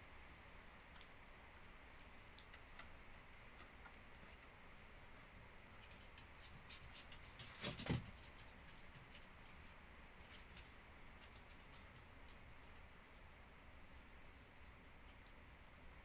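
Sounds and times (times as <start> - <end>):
dogs nibbling food: 1.8 - 15.8.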